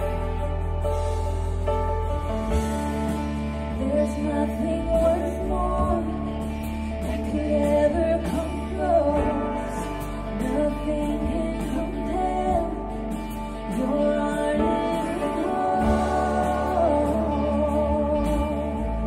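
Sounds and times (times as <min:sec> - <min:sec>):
sustained low chords and bass: 0:00.0 - 0:19.0
women singing: 0:03.7 - 0:19.0.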